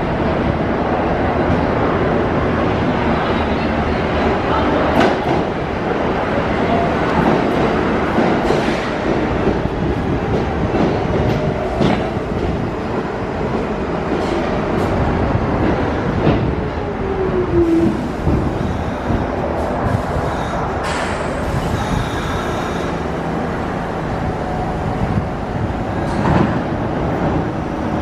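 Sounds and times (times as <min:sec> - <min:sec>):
falling whine of train: 0:00.0 - 0:28.0
subway train wheels rumbling: 0:00.0 - 0:28.0.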